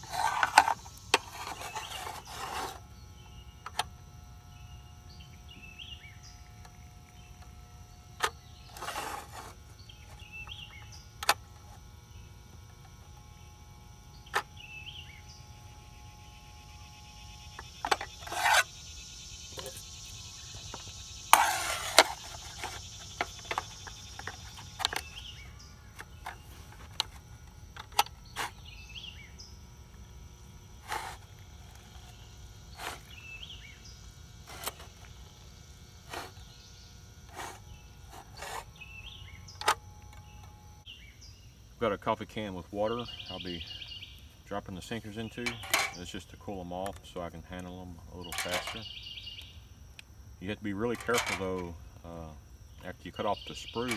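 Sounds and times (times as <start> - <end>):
insects chirping: 0.0 - 53.9.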